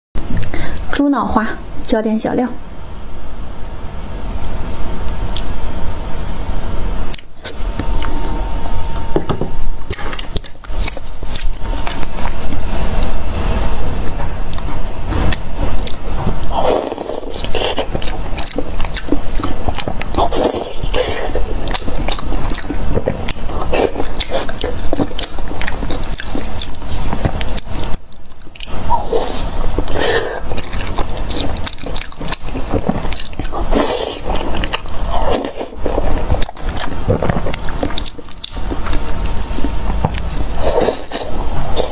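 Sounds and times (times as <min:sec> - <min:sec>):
biting and chewing: 0:07.1 - 0:41.9.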